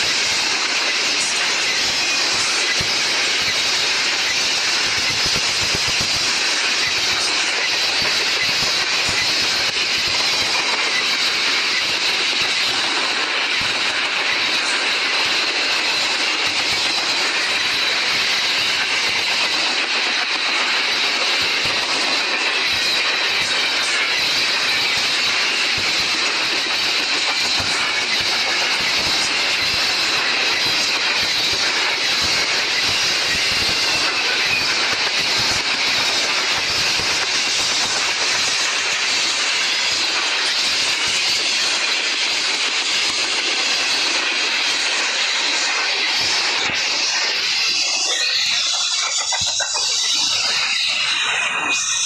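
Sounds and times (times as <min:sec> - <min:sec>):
train wheels rolling on track: 0:00.0 - 0:52.0.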